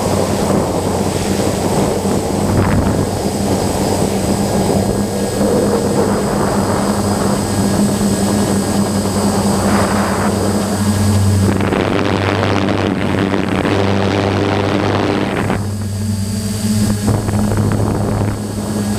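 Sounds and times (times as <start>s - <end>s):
drone motors humming: 0.0s - 18.9s.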